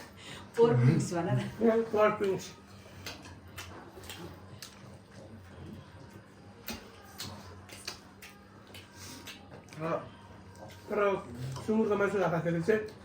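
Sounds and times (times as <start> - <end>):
chewing and smacking: 2.0 - 13.0.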